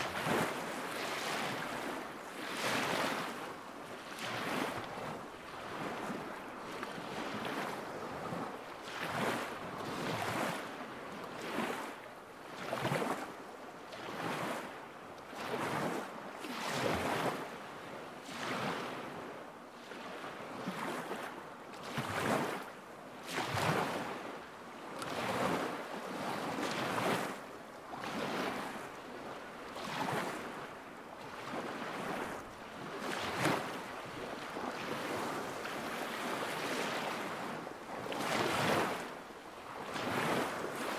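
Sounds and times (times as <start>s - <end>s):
small waves lapping at shore: 0.0s - 40.9s.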